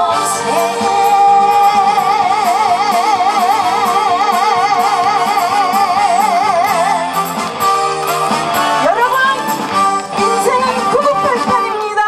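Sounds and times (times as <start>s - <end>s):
backing music track: 0.0s - 12.0s.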